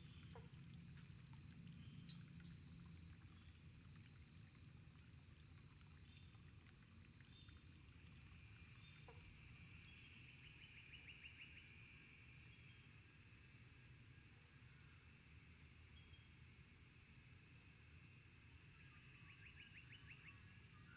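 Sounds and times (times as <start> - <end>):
faint high chirps and ticks: 0.0 - 20.9.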